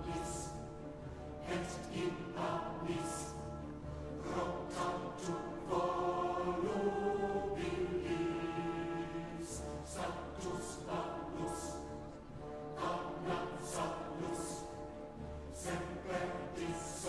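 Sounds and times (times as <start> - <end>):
background music with held chords: 0.0 - 17.0.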